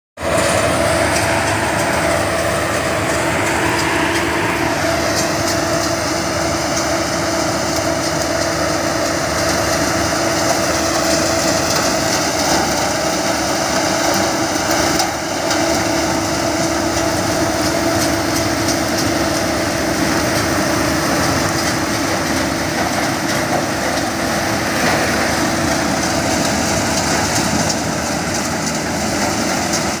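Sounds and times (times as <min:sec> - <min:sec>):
harvester engine drone: 0:00.2 - 0:30.0.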